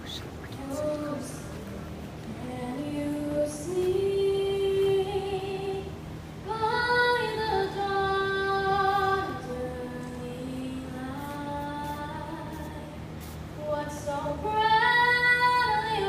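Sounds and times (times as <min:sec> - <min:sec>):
girl singing an anthem: 0:02.4 - 0:13.0, 0:13.6 - 0:16.0.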